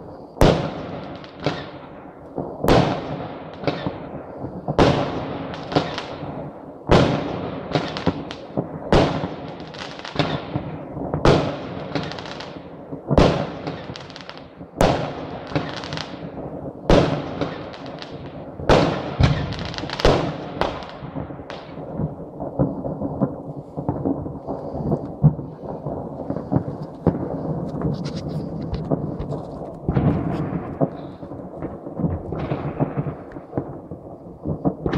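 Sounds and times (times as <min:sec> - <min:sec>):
fireworks bangs: 0:00.0 - 0:34.9
rumble of fireworks bursts: 0:00.0 - 0:34.9.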